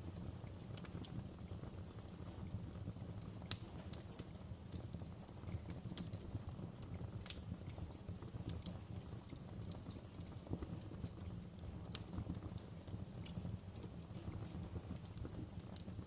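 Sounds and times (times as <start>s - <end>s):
fire crackling: 0.4s - 16.0s.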